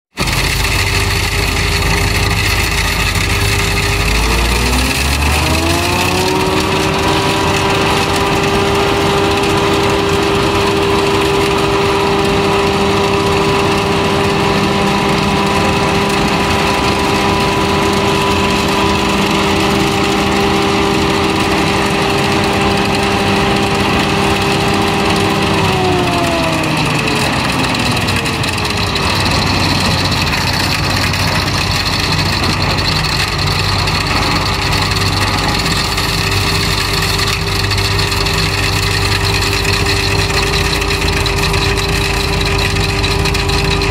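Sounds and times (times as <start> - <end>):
forage harvester whining: 0.1 - 43.9.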